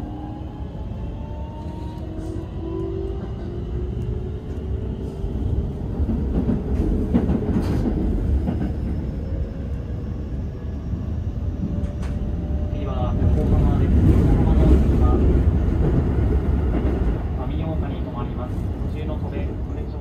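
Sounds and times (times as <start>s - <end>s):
train low rumble and rattle: 0.0s - 20.0s.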